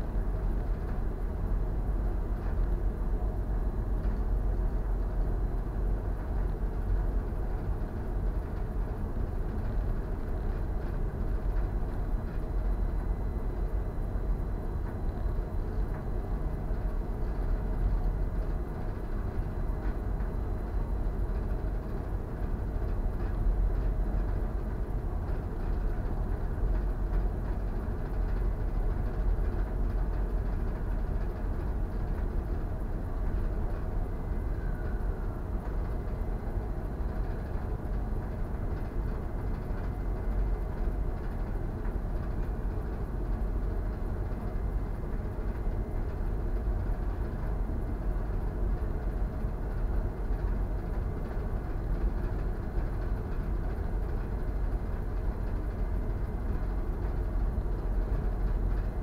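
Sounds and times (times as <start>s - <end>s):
ship engine low rumble: 0.0s - 59.0s.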